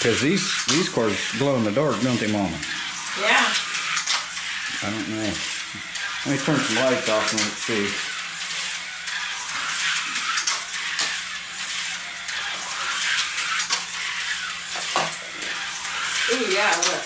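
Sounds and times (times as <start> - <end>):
slot car motors whirring: 0.0 - 17.0.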